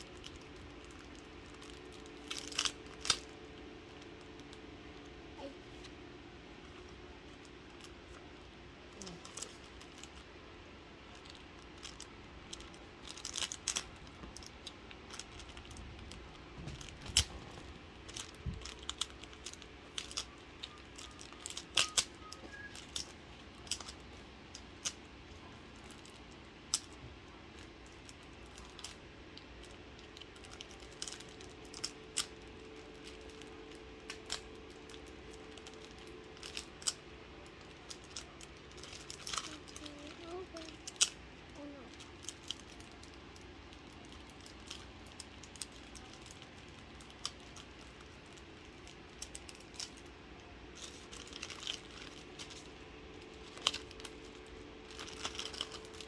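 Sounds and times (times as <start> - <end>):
card packaging clicks and crinkles: 0.0 - 5.1, 9.0 - 10.3, 11.0 - 56.0.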